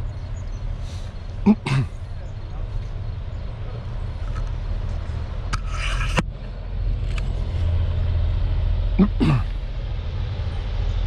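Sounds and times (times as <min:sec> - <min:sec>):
diesel locomotive rumble: 0:00.0 - 0:11.0.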